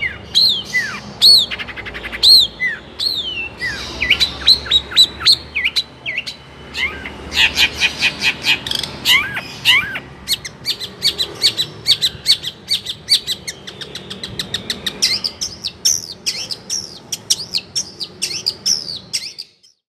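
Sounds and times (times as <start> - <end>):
songbird singing: 0.0 - 19.9.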